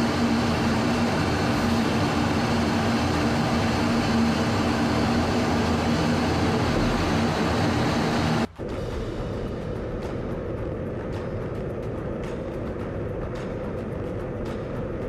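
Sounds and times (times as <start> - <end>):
constant low hum: 0.0 - 15.0
military jet engine noise: 0.0 - 15.0.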